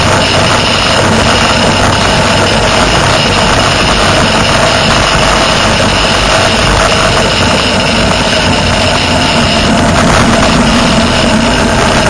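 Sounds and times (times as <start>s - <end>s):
motorcycle engine cruising: 0.0s - 12.0s
road noise: 0.0s - 12.0s
wind noise: 0.0s - 12.0s.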